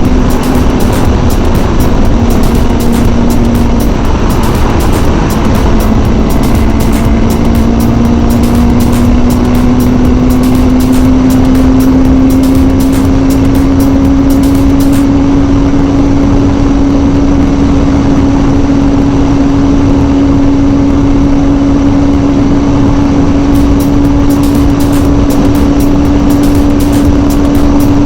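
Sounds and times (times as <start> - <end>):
motorcycle engine at high speed: 0.0 - 28.0
wind noise: 0.0 - 28.0.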